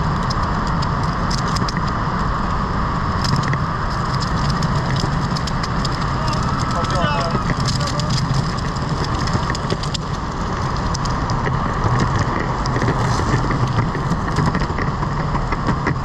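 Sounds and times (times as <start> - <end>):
longboard wheels rumbling on pavement: 0.0 - 16.0
wheels clicking over cracks: 0.0 - 16.0.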